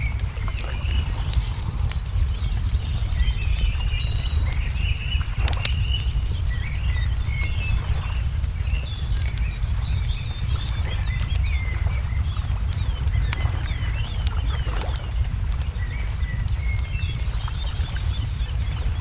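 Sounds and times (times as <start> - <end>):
songbirds chirping and whistling: 0.0 - 19.0
steady low rumble: 0.0 - 19.0
wood fire crackling and popping: 0.0 - 19.0.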